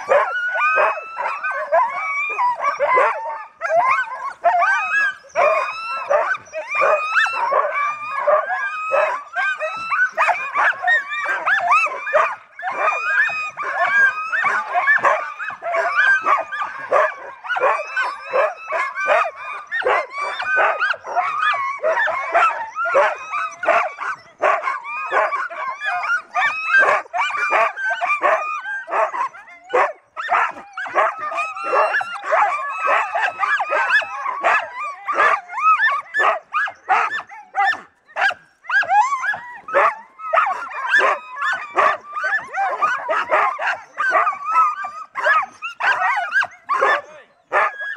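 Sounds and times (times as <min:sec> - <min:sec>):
sled dogs barking and yelping: 0:00.0 - 0:47.9.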